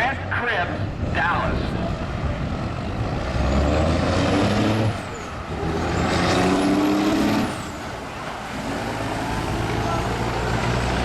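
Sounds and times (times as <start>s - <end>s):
diesel truck engines running hard: 0.0s - 11.0s.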